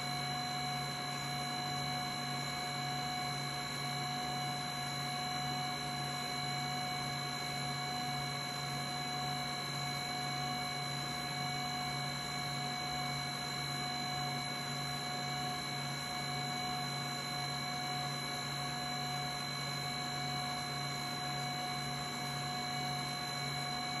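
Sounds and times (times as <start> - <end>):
fan and motor whirring hum: 0.0 - 24.0.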